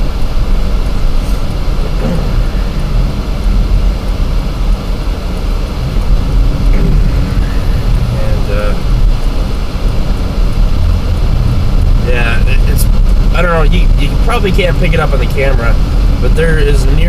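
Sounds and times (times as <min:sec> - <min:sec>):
car tyres and engine rumble: 0:00.0 - 0:17.0.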